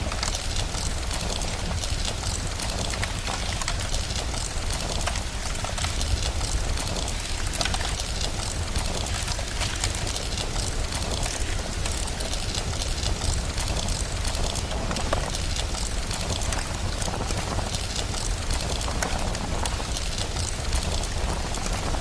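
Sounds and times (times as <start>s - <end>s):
small crackling ticks: 0.0s - 22.0s
steady rain: 0.0s - 22.0s.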